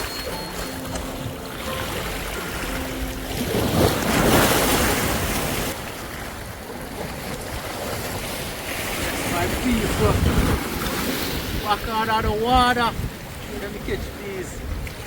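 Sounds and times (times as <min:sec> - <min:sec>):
sea waves washing: 0:00.0 - 0:15.0
wind buffeting microphone: 0:00.9 - 0:15.0.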